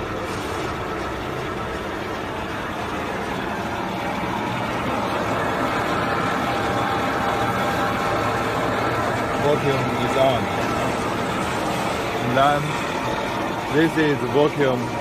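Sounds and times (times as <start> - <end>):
mixer motor hum: 0.0 - 15.0.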